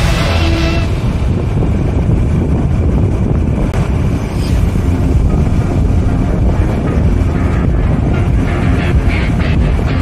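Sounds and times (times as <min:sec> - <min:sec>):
vehicle engine and tyres rumbling: 0:00.0 - 0:10.0.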